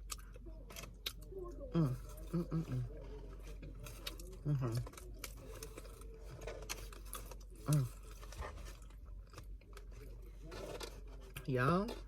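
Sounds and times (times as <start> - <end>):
chewing crispy fries: 0.0 - 12.0.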